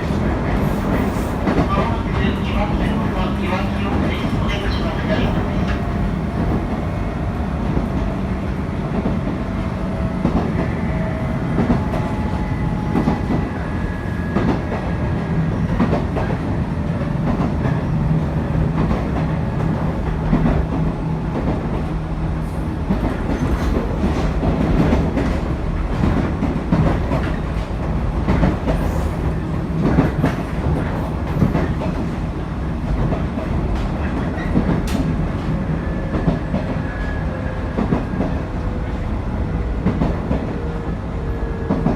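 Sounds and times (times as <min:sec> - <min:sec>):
train rumble with low hum: 0:00.0 - 0:41.9.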